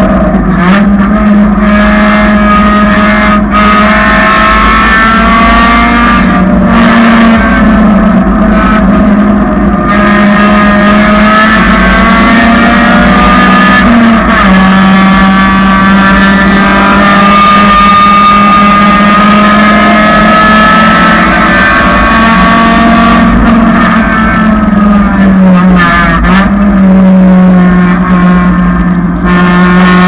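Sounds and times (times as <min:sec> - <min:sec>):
car engine running hard: 0:00.0 - 0:30.0.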